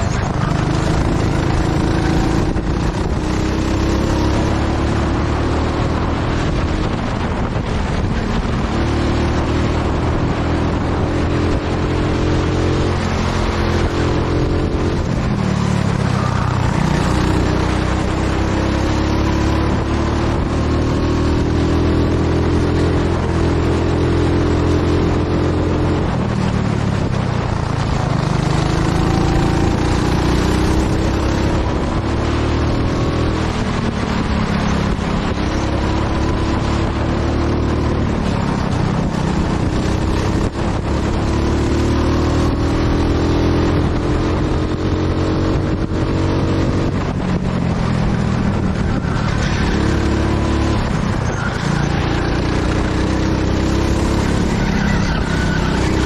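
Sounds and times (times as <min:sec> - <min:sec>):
go-kart engine accelerating: 0:00.0 - 0:56.0.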